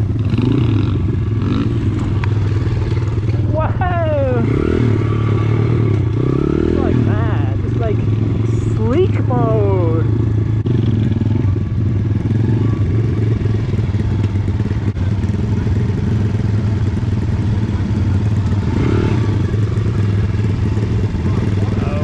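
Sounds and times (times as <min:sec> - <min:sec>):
small motorbike engines running: 0:00.0 - 0:22.0.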